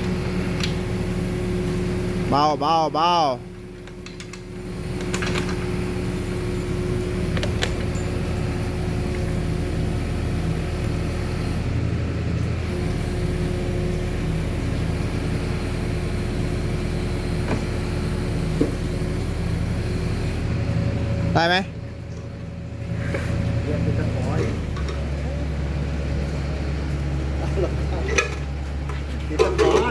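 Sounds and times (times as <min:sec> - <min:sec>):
engine humming steadily: 0:00.0 - 0:29.9.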